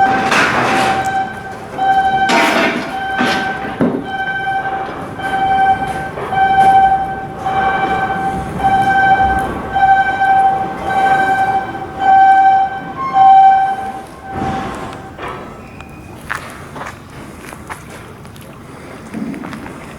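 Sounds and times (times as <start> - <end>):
metal knocks: 0.0 - 16.1
electronic warning beeper: 0.0 - 16.2.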